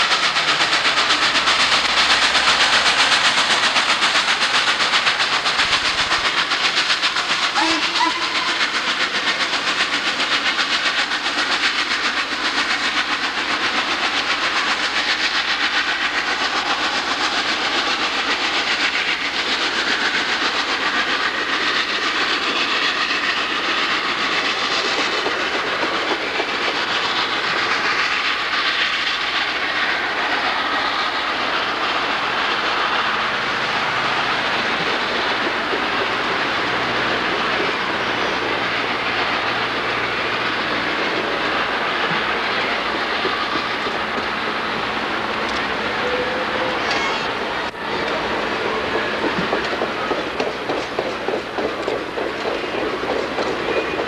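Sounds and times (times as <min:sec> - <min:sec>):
steam locomotive exhaust: 0:00.0 - 0:54.0
train wheels clattering on rails: 0:00.0 - 0:54.0.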